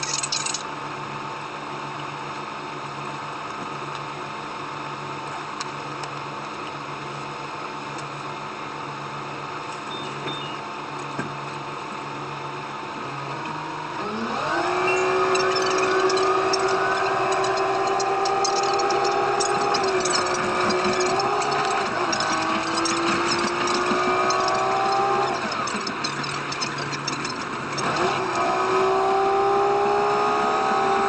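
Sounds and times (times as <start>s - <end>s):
diesel train engine: 0.0s - 28.6s.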